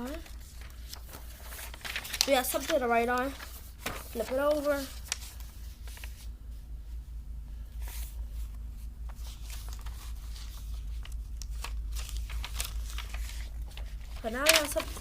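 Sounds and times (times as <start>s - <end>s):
paper rustling: 0.0s - 6.3s, 7.8s - 15.0s
steady low hum: 0.0s - 15.0s.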